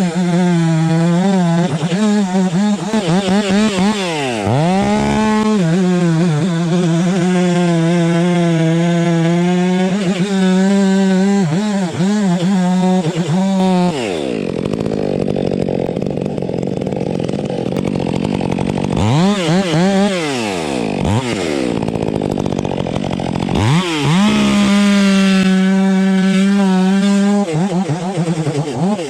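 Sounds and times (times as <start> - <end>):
chainsaw engine revving: 0.0 - 29.0.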